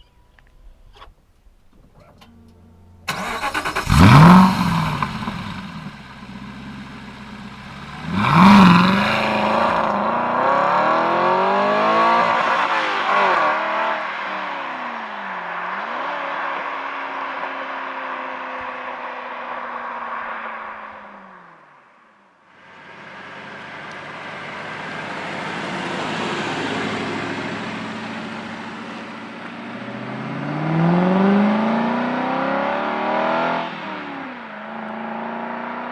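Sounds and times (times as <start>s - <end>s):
car engine revving and idling: 1.6s - 17.8s, 22.7s - 35.9s.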